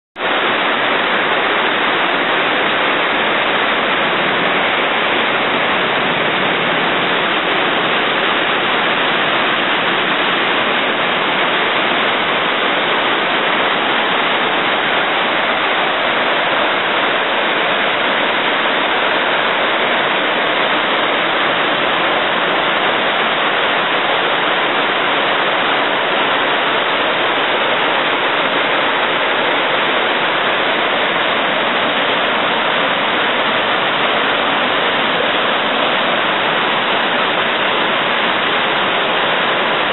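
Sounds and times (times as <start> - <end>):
river rapids roaring: 0.2 - 39.9.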